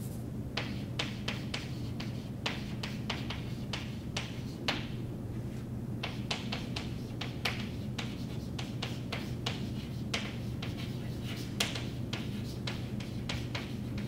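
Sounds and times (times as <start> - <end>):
chalk tapping and scratching: 0.6 - 4.9, 6.0 - 14.0.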